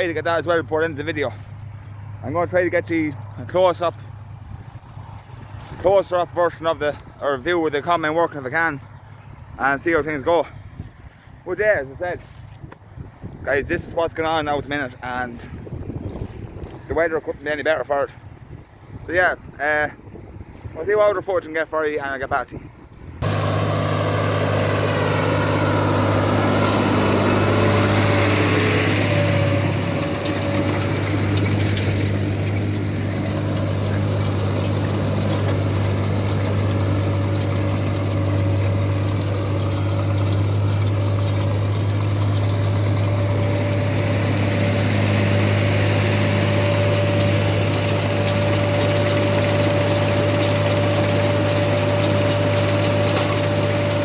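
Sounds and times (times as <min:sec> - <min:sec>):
diesel engine droning under load: 0:00.0 - 0:17.0, 0:23.1 - 0:54.0.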